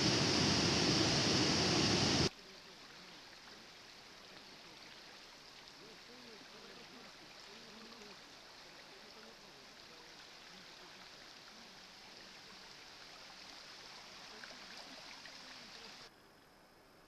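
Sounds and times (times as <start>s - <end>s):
river rushing: 0.0s - 16.1s.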